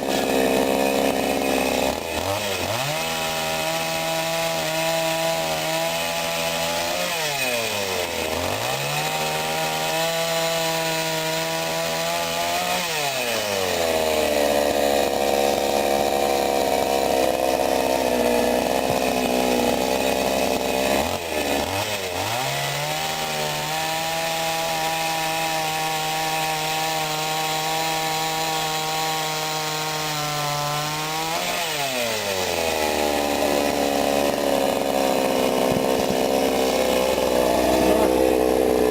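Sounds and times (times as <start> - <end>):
chainsaw cutting wood: 0.0 - 38.9
chainsaw running at high revs: 0.0 - 38.9.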